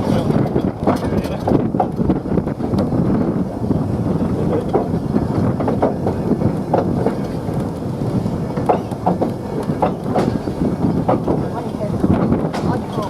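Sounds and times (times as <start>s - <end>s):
train rumbling on rails: 0.0s - 13.0s
wheels clicking and knocking: 0.0s - 13.0s.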